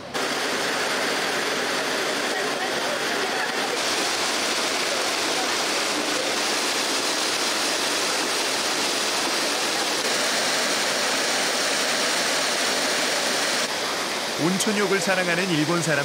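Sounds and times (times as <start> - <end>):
water pouring through channels: 0.0 - 16.0.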